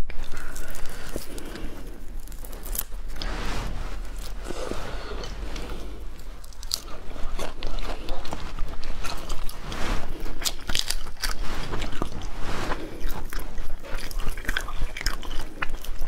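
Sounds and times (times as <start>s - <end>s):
chewing with small crunches: 0.0s - 3.5s, 4.1s - 16.0s.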